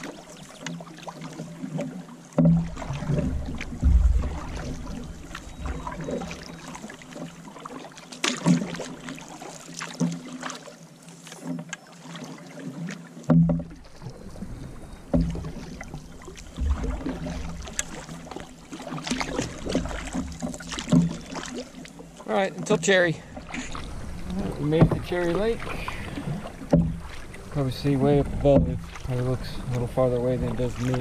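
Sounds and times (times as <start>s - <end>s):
moving water wash: 0.0s - 31.0s
paddles splashing in water: 0.0s - 31.0s.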